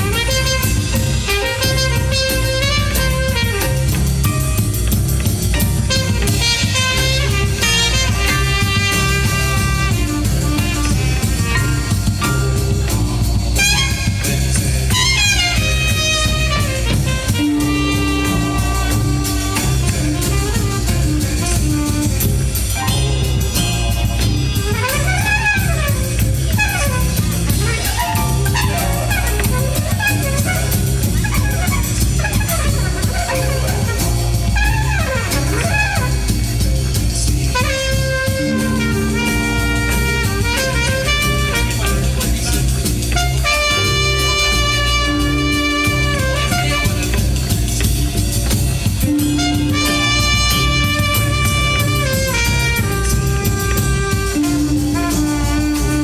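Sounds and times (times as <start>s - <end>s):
drum kit beat: 0.0s - 56.0s
jazz horn lines: 0.0s - 56.0s.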